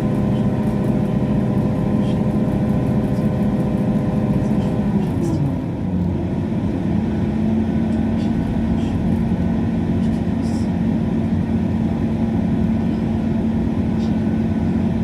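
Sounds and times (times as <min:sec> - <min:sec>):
constant low hum: 0:00.0 - 0:15.0
train rumble: 0:00.0 - 0:15.0.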